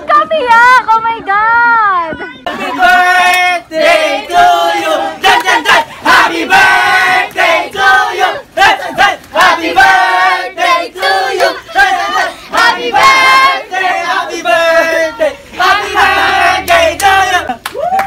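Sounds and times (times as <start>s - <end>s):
group singing and cheering: 1.3s - 18.0s.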